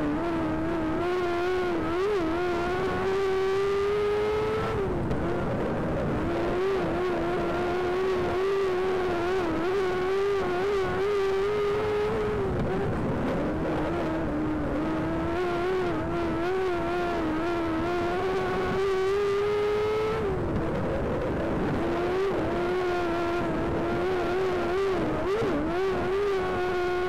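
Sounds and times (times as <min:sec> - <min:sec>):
race car engine revving high: 0:00.0 - 0:27.0.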